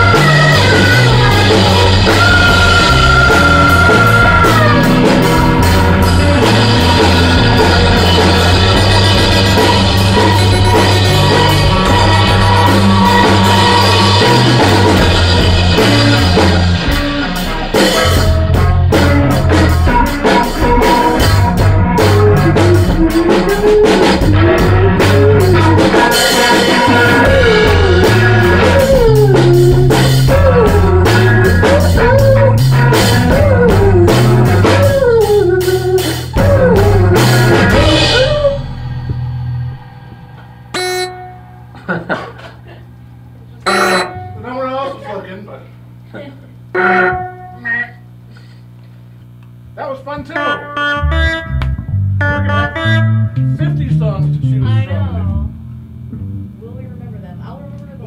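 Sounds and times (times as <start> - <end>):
rock band playing: 0.0 - 48.8, 49.6 - 58.0.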